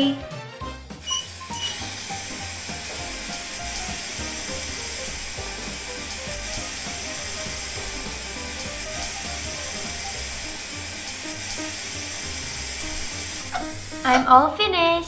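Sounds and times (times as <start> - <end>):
light background music: 0.0 - 15.0
toy water pump running: 1.0 - 14.3.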